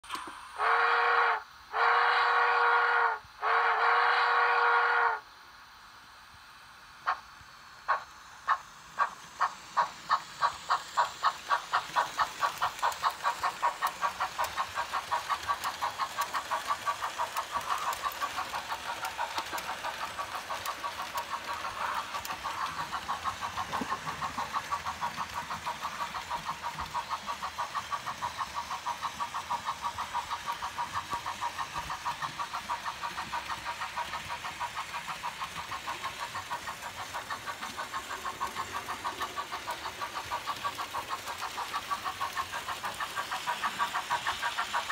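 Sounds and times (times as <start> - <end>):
model steam locomotive chuffs: 0.0 - 44.9.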